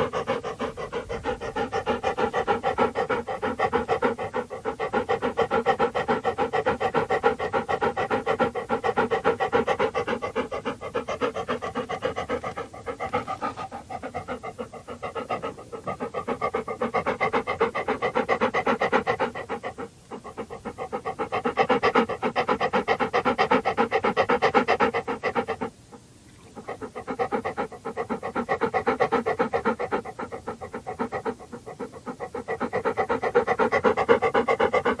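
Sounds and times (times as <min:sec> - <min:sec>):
dog panting rapidly: 0:00.0 - 0:35.0.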